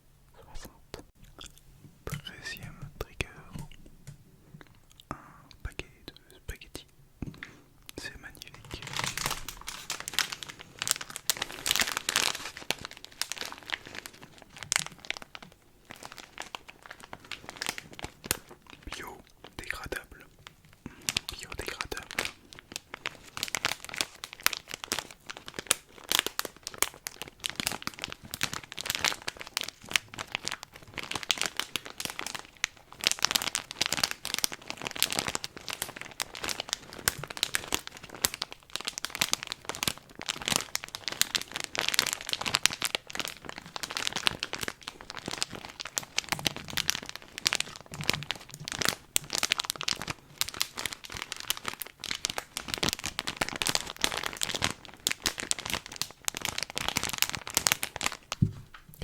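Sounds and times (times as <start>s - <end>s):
material crumpling crackles: 8.4s - 59.0s.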